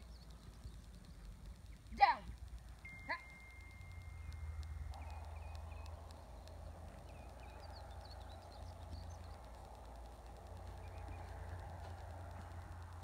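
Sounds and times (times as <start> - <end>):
faint bird chirps: 0.0 - 12.9
steady low rumble: 0.0 - 13.0.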